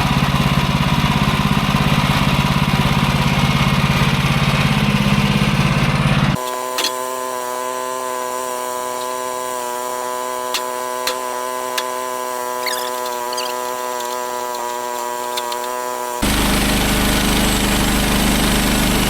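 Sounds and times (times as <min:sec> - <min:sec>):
bandsaw humming drone: 0:00.0 - 0:19.0.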